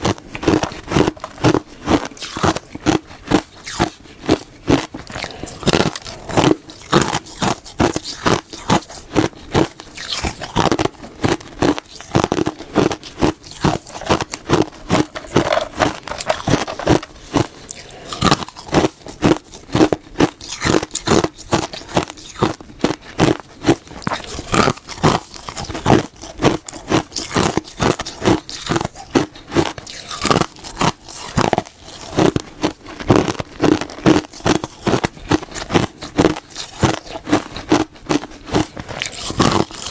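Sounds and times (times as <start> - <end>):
crunching crisp food: 0.0 - 39.9.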